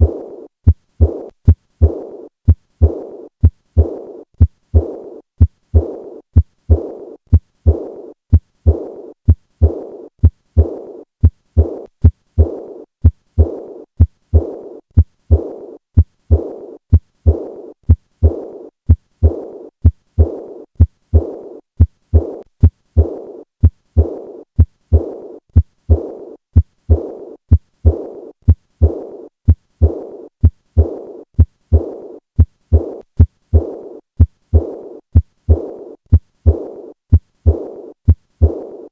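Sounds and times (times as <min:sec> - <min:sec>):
heart murmur: 0:00.0 - 0:38.9
heartbeat thuds: 0:00.0 - 0:38.9.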